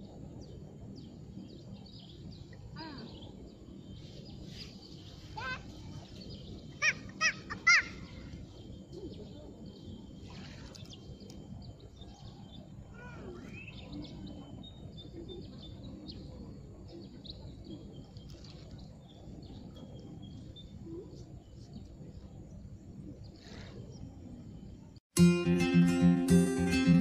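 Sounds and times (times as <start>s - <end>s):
steady low background rumble: 0.0s - 25.0s
small birds chirping: 0.4s - 25.0s.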